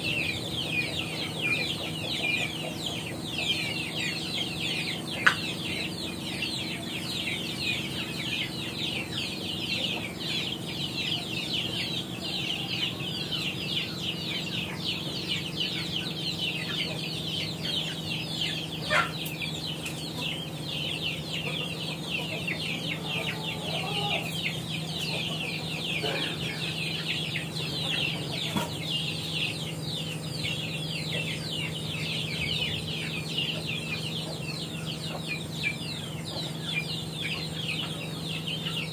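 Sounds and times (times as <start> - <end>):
chickens calling: 0.0 - 38.9
steady low hum: 0.0 - 38.9.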